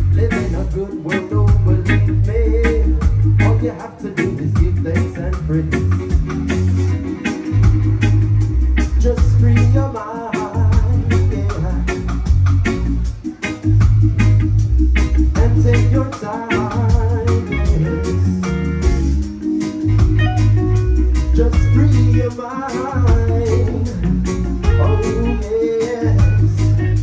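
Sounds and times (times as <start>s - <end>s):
heavy bass line: 0.0s - 27.0s
lead electric guitar bending notes: 0.0s - 27.0s
reggae band playing: 0.0s - 27.0s.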